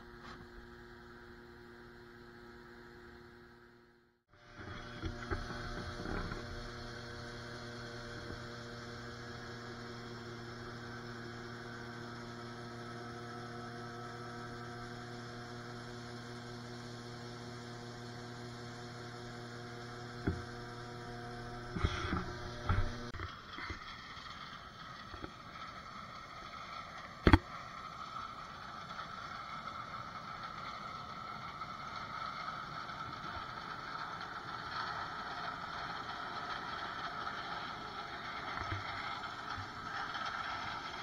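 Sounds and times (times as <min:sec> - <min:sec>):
rough noisy machine sound: 0:00.0 - 0:41.0
farm machinery droning: 0:04.3 - 0:41.0.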